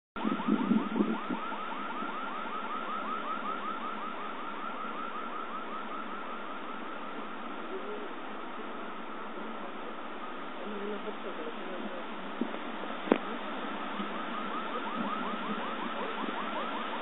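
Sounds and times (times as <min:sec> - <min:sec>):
rushing storm noise: 0:00.2 - 0:17.0.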